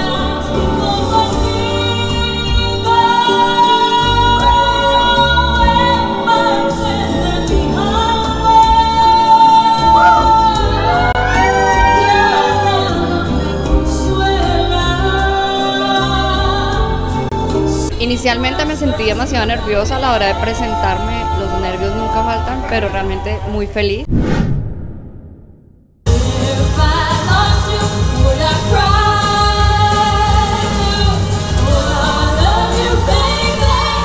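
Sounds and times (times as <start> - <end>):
woman singing into a microphone: 0.0 - 23.7, 26.1 - 34.0.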